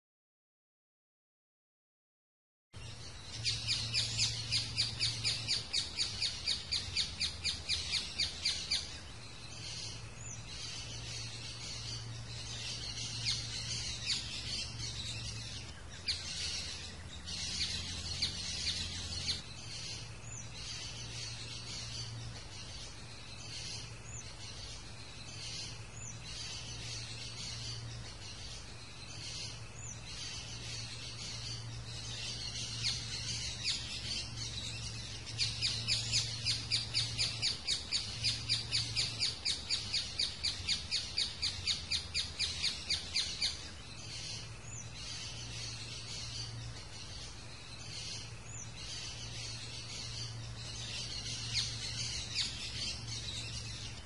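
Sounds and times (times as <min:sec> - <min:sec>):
bird calling: 0:03.1 - 0:54.0.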